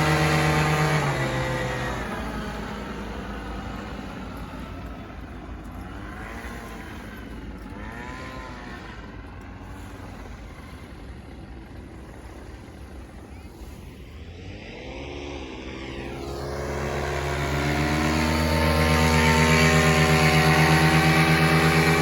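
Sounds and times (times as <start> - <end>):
steady traffic rumble: 0.0 - 22.0
vehicle engine passing: 0.0 - 22.0.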